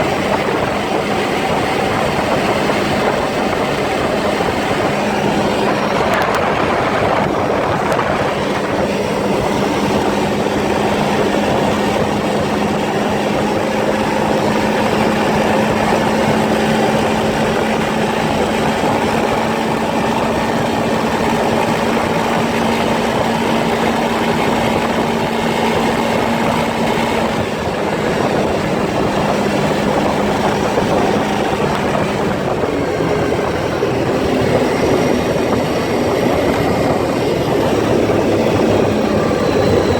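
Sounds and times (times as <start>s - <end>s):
atv engine running: 0.0s - 39.9s
ride rumble and rattle: 0.0s - 39.9s.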